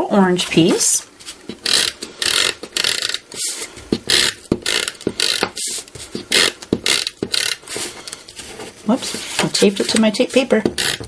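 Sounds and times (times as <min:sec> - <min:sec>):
tape runner strokes on paper: 0:00.6 - 0:11.0.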